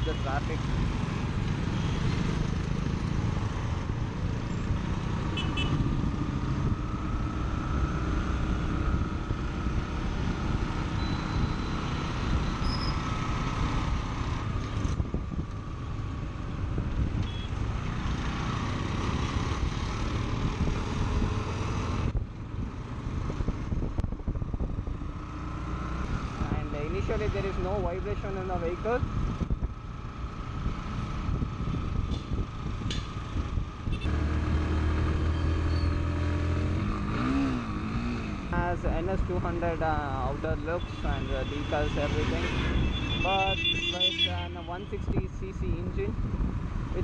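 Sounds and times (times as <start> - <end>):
road and wind noise: 0.0 - 47.0
surrounding traffic: 0.0 - 47.0.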